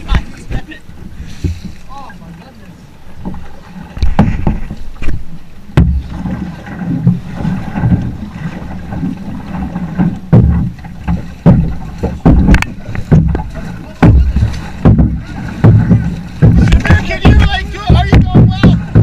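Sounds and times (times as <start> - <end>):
paddle knocking on hull: 0.0 - 19.0
paddle splashes: 0.0 - 19.0.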